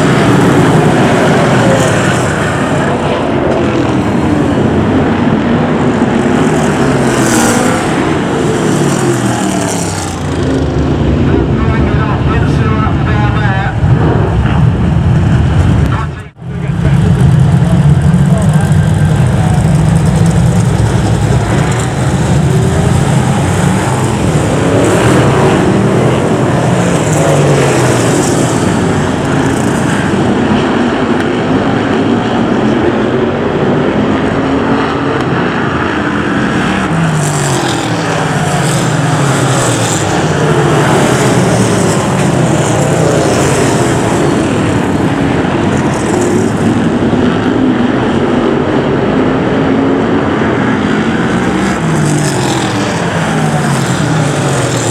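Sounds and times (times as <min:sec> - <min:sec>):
race car engines revving: 0:00.0 - 0:54.9.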